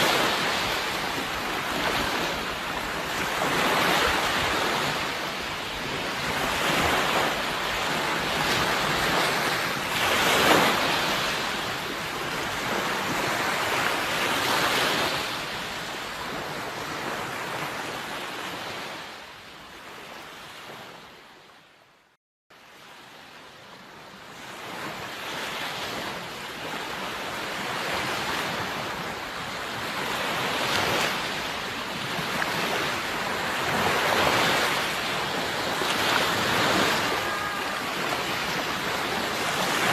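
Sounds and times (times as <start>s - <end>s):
sea waves breaking on shore: 0.0s - 21.7s, 22.6s - 39.9s.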